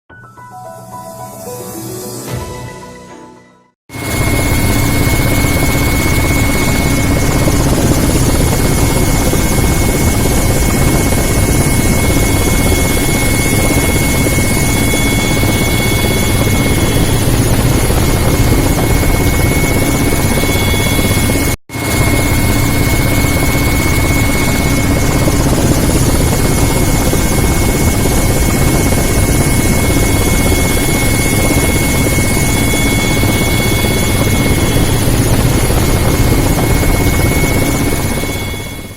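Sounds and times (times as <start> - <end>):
helicopter rotor chop and whine: 3.9 - 38.9.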